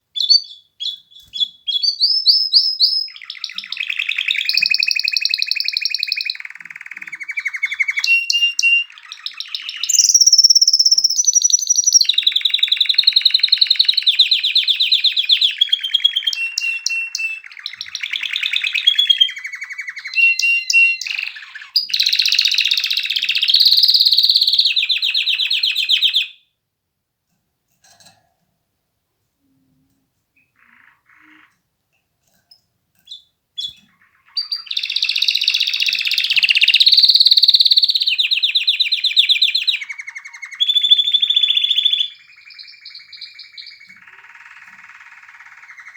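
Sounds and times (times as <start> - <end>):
canary singing trills: 0.2 - 26.4, 30.4 - 31.6, 32.5 - 45.9.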